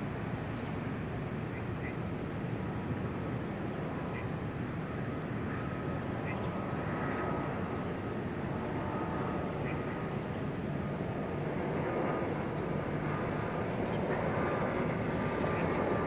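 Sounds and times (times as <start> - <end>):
distant jet airliner drone: 0.0 - 16.0.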